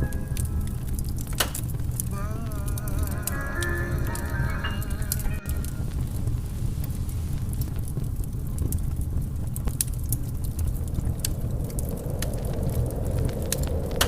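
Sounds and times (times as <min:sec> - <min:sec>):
fireplace crackling and popping: 0:00.0 - 0:14.0
low rumble of wind: 0:00.0 - 0:14.0.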